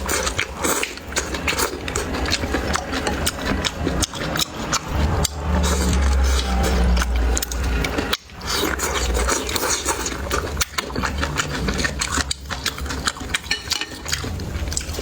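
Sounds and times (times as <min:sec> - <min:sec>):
chewing and utensil clicks: 0:00.0 - 0:15.0
low steady hum: 0:00.0 - 0:15.0.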